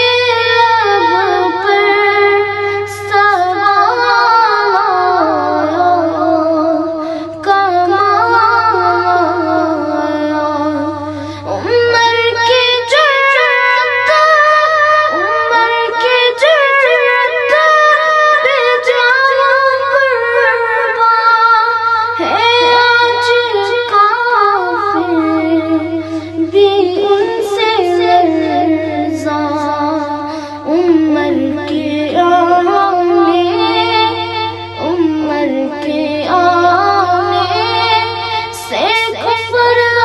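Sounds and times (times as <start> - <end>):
boy singing devotional song: 0.0 - 40.0
steady low hum: 0.0 - 40.0.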